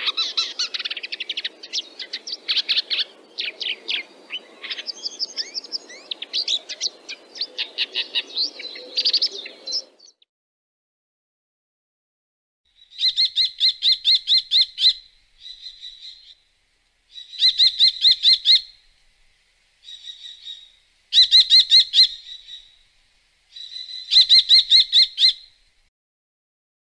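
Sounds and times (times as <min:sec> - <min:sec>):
kestrel calling: 0:00.0 - 0:10.1, 0:12.8 - 0:16.4, 0:17.1 - 0:22.9, 0:23.5 - 0:25.6.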